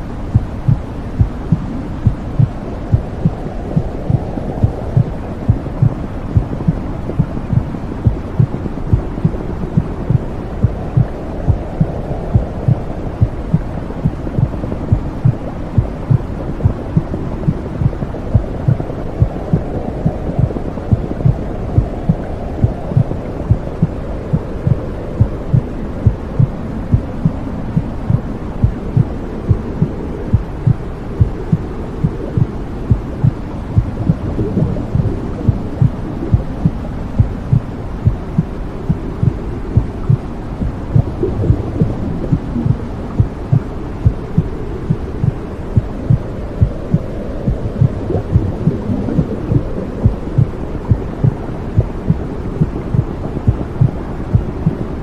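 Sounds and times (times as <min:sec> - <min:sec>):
low whooshing: 0:00.0 - 0:55.0
heartbeat thumping: 0:00.3 - 0:54.8.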